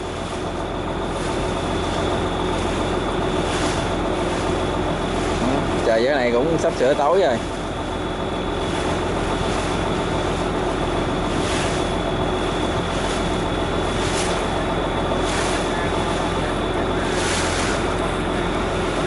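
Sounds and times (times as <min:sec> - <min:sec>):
boat engine humming: 0:00.0 - 0:19.0
water noise: 0:00.0 - 0:19.0
wind: 0:00.0 - 0:19.0.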